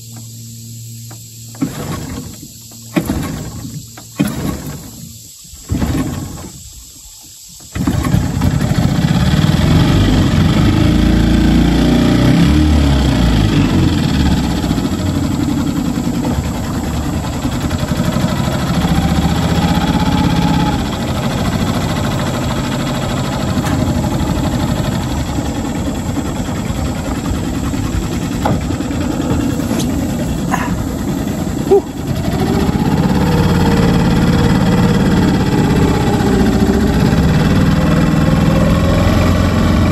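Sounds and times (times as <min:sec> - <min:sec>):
outboard engine running: 0:00.0 - 0:39.9.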